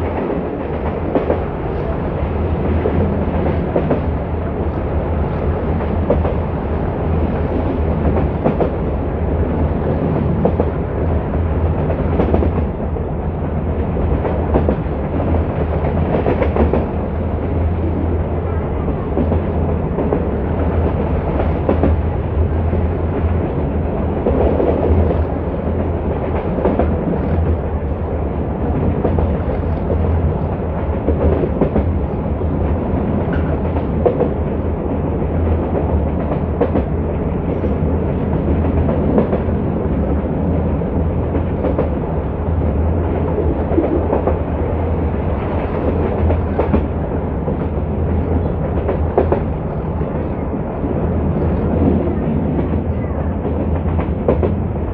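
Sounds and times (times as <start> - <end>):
train low rumble: 0.0 - 54.9.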